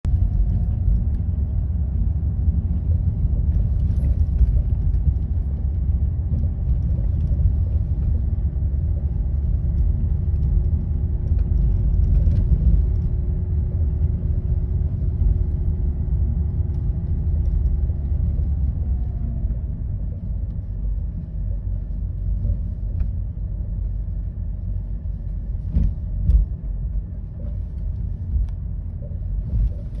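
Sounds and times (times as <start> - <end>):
road rumble inside car: 0.0 - 30.0.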